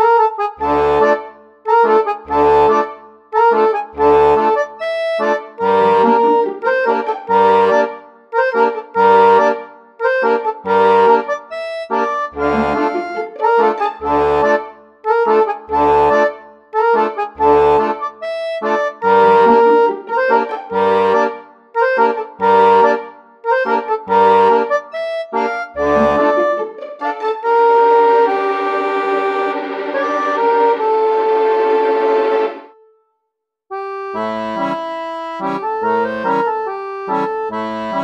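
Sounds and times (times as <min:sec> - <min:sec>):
instrumental music with steady beat: 0:00.0 - 0:33.0, 0:33.7 - 0:38.0.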